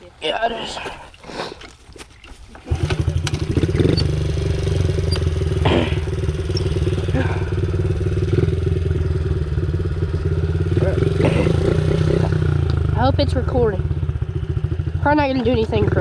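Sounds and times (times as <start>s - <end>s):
small motorbike engine idling: 2.6s - 16.0s.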